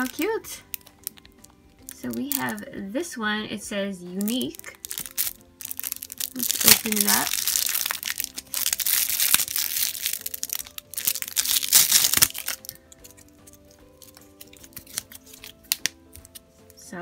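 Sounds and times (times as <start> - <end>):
cellophane wrapper crinkling and tearing: 0.0 - 2.7, 4.2 - 16.5
soft background music: 0.0 - 17.0.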